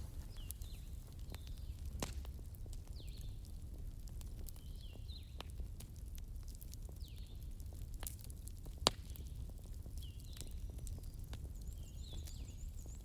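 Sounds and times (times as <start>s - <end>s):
fire popping: 0.0s - 13.0s
wood fire crackling: 0.0s - 13.0s.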